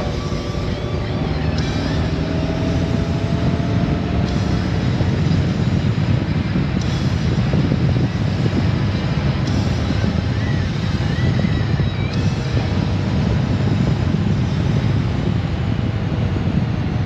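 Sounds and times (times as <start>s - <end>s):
motorcycle engine: 0.0s - 17.0s
road noise: 0.0s - 17.0s
wind noise: 0.0s - 17.0s.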